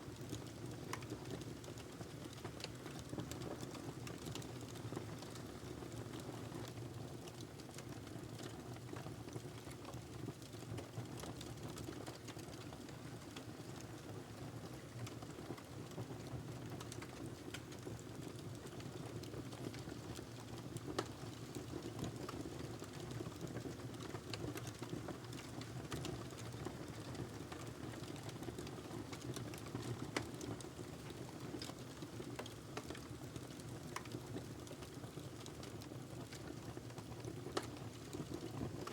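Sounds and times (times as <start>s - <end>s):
fire roaring in fireplace: 0.1s - 38.9s
wood crackling and popping: 0.2s - 38.9s.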